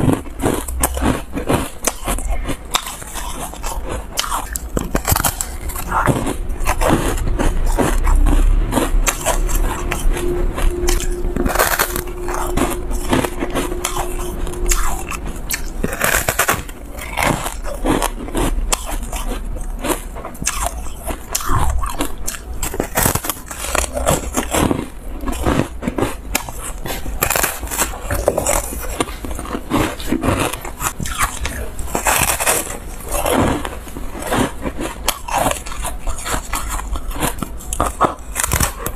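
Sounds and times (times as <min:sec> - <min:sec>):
crunching frozen foam: 0:00.0 - 0:38.9.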